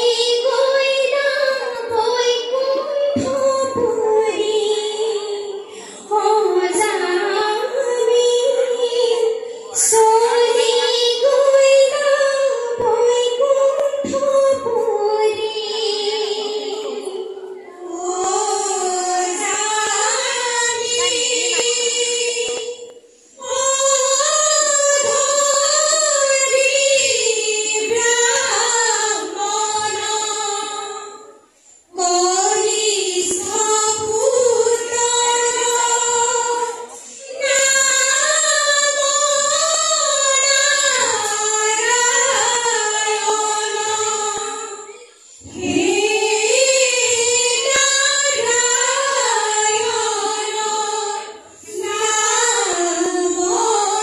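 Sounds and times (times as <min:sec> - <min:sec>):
women chanting devotional song: 0:00.0 - 0:54.0.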